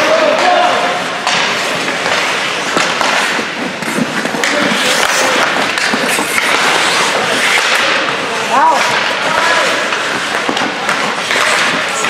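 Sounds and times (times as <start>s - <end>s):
echoing rink hall noise: 0.0s - 12.0s
skates scraping ice: 0.0s - 12.0s
sticks and puck clacking: 0.0s - 12.0s.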